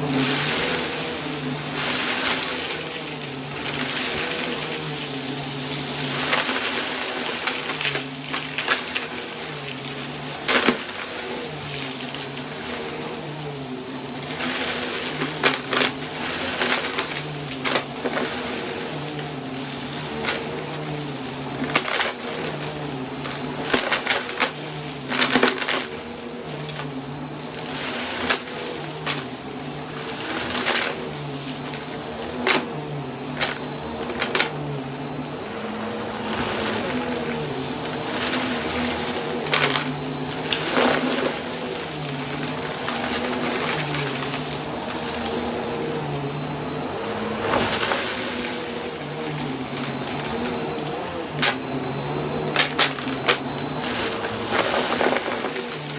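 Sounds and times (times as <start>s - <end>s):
debris crackling in vacuum: 0.0s - 55.9s
vacuum cleaner running: 0.0s - 55.9s.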